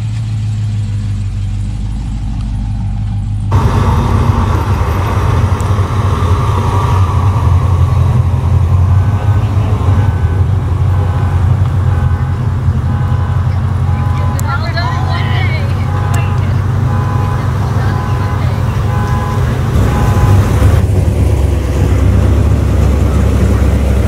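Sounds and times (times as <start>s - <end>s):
car driving slowly by: 0.0s - 24.0s
car engine idling: 0.0s - 24.0s.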